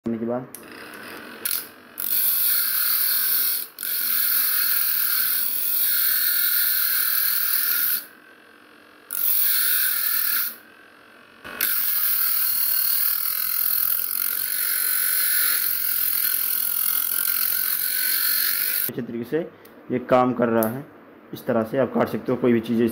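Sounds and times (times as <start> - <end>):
grinder grinding metal blade: 0.6 - 18.9.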